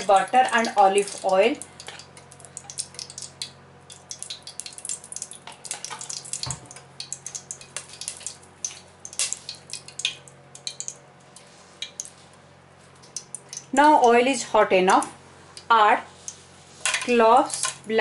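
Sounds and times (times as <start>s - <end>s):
oil crackling in a hot wok: 0.0s - 15.1s, 16.1s - 18.0s.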